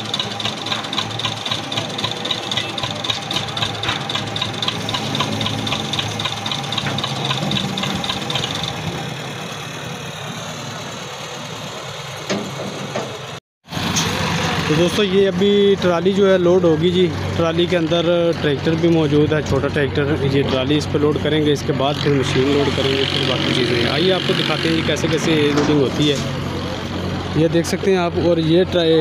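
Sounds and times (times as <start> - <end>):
tractor diesel engine idling: 0.0 - 29.0.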